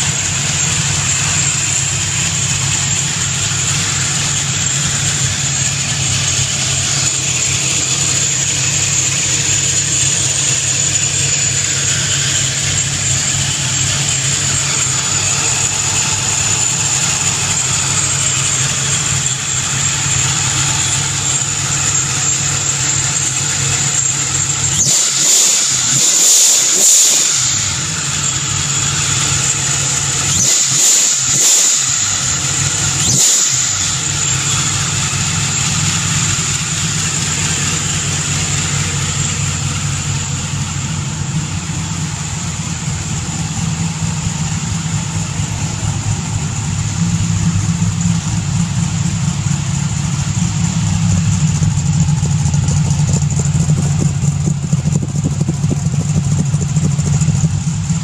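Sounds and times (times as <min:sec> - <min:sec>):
vee eight engine idling: 0:00.0 - 0:58.0.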